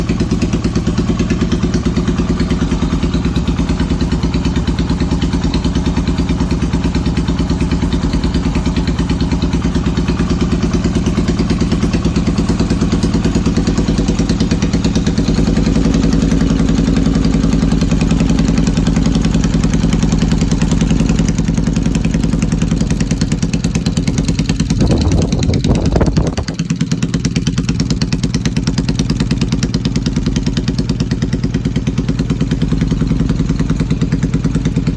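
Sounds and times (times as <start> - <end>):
motorcycle engine idling with misfires: 0.0 - 34.9.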